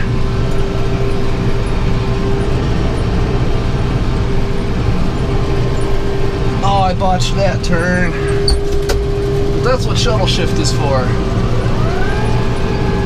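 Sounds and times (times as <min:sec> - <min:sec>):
baler whine: 0:00.0 - 0:13.0
tractor engine running: 0:00.0 - 0:13.0.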